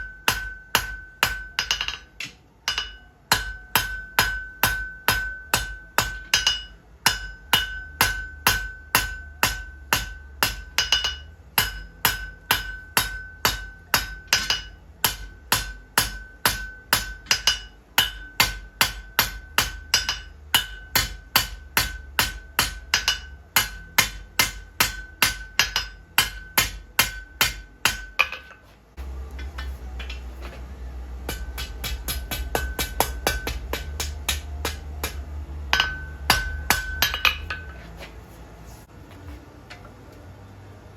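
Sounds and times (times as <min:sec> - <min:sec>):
hammer ringing on anvil: 0:00.0 - 0:28.5, 0:31.2 - 0:37.8
steady low hum: 0:00.0 - 0:40.9.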